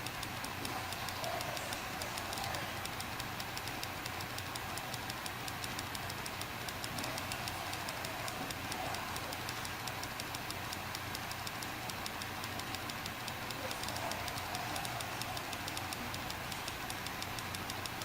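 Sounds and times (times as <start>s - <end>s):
hard drive ticking and clicking: 0.0s - 18.0s
steady low hum: 0.0s - 18.0s.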